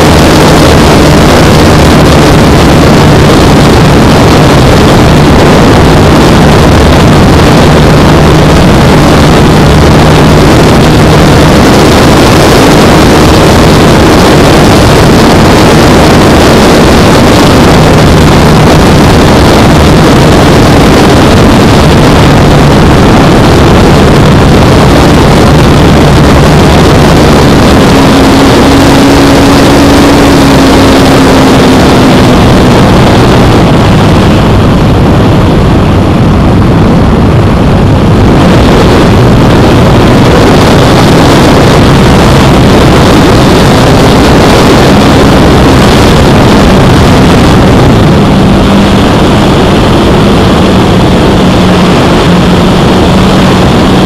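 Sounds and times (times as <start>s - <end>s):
wind rush: 0.0s - 54.0s.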